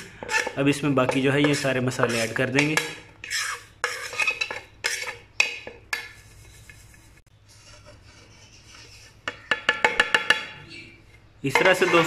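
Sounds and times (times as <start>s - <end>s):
plate and utensil scraping: 0.0s - 10.4s, 11.5s - 12.0s.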